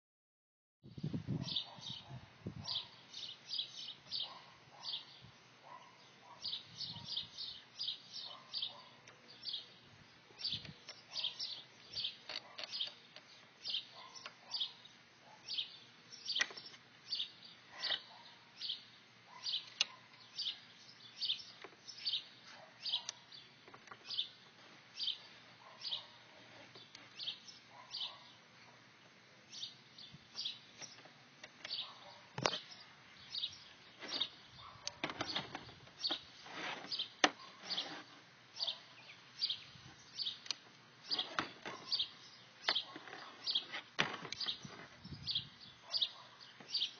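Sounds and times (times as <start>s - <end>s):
bird chirping: 1.0s - 28.8s, 29.5s - 46.9s.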